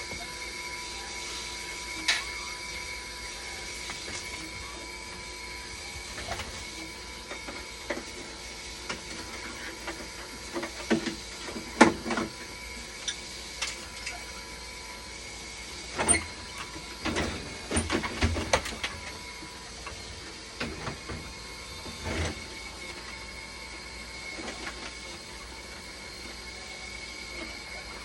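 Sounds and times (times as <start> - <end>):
dialysis machine humming: 0.0 - 28.0.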